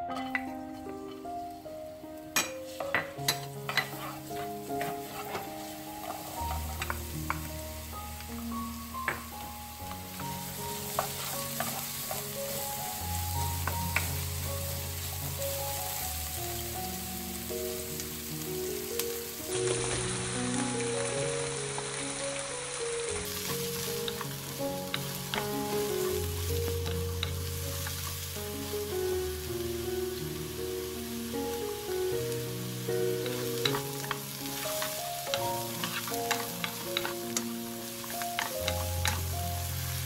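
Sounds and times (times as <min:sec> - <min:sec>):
garlic and onion sizzling: 0:00.0 - 0:40.0
soft background music: 0:00.0 - 0:40.0.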